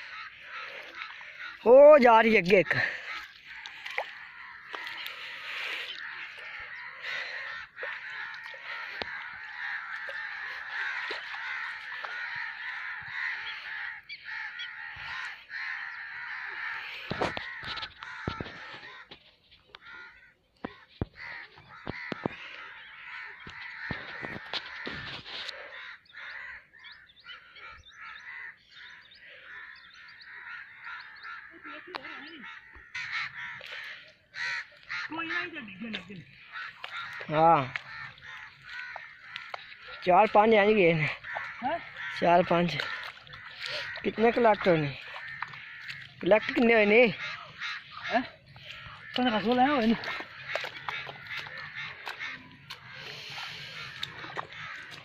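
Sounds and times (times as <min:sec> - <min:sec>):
birds chorus: 0:00.0 - 0:55.0.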